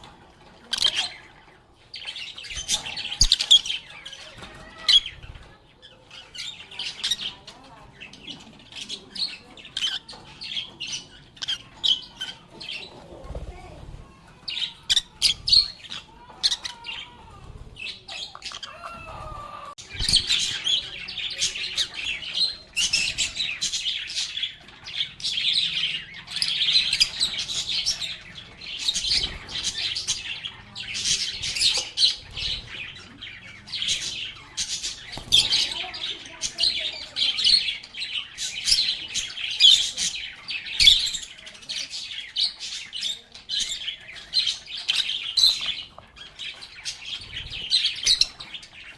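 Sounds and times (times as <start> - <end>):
lovebirds chirping and twittering: 0.0 - 48.9.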